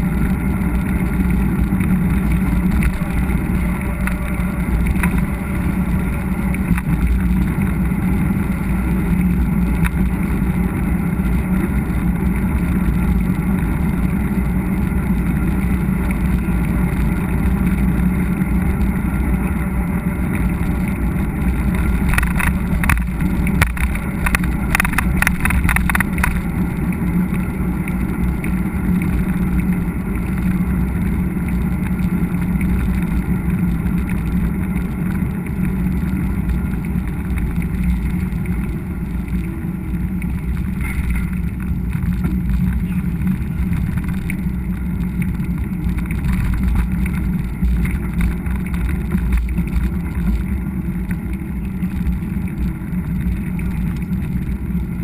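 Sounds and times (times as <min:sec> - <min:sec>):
wind and tyre rumble: 0:00.0 - 0:55.0.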